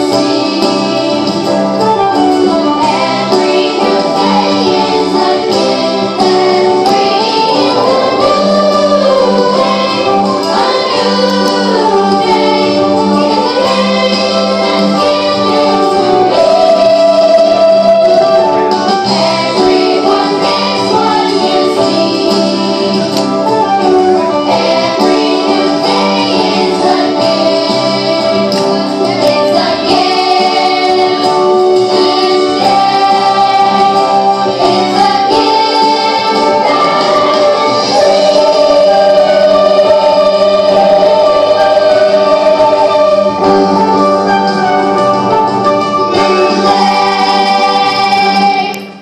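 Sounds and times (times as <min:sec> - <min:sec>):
choir singing: 0:00.0 - 0:45.0, 0:46.0 - 0:49.0
instrumental accompaniment: 0:00.0 - 0:49.0.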